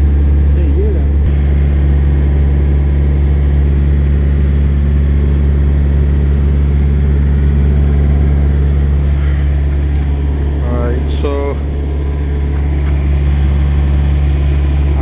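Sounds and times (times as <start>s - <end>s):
large engine idling: 0.0s - 15.0s.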